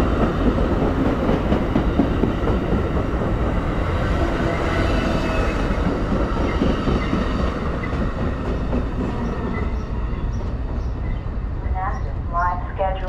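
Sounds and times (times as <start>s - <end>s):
train wheels rumbling on rails: 0.0s - 12.7s.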